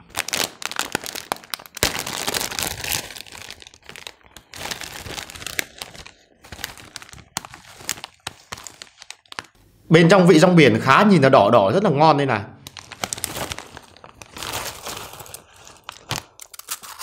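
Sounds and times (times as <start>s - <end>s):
snack bag crinkling and tearing: 0.0s - 9.6s, 12.6s - 17.0s.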